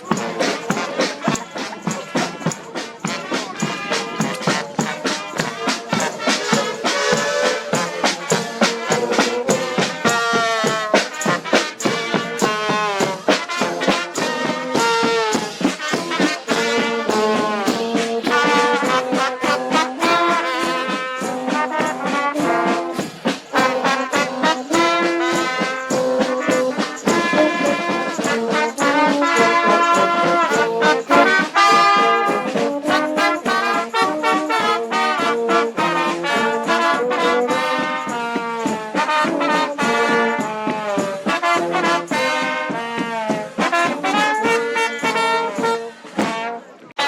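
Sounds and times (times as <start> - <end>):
brass band playing: 0.0 - 47.0.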